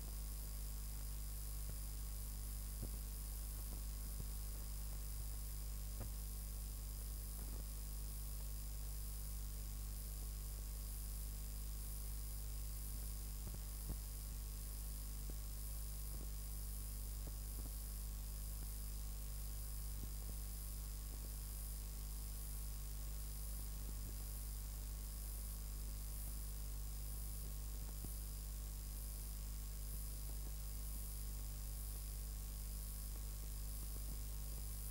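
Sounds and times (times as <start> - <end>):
low electrical hum: 0.0 - 34.9.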